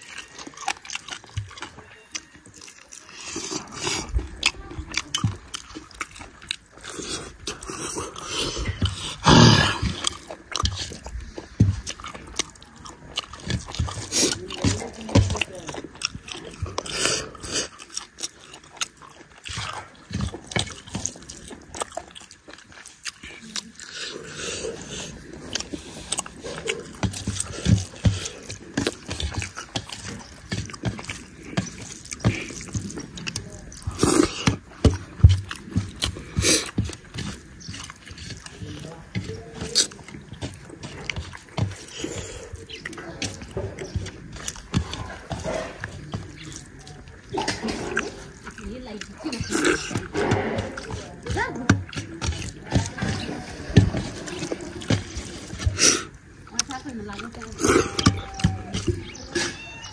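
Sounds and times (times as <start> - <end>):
fingers working rice on steel plate: 0.0 - 59.9
wet eating sounds by hand: 0.0 - 59.9.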